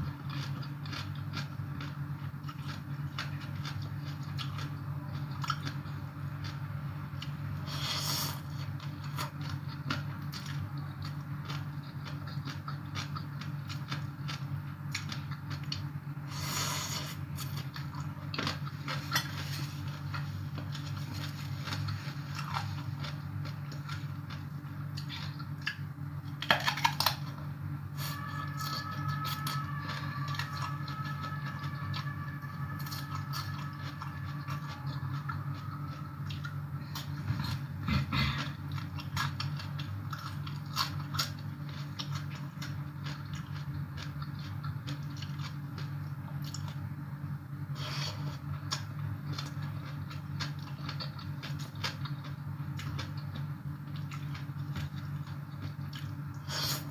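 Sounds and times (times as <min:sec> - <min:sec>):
crunching and chewing food: 0:00.0 - 0:56.9
steady low hum: 0:00.0 - 0:56.9.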